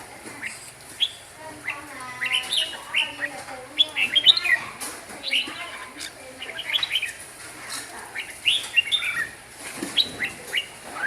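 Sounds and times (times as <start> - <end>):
bird whistling song: 0.4 - 7.2, 8.1 - 11.0.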